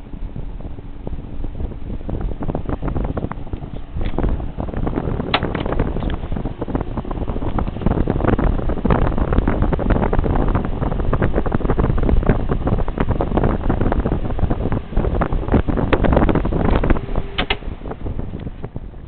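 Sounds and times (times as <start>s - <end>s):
fan wind buffeting microphone: 0.0s - 19.0s.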